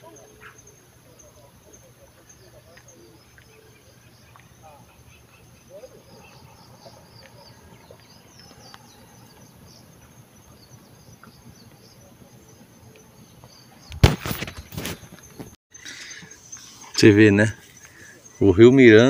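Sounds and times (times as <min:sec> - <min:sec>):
insect and bird chirps: 0:00.0 - 0:19.0.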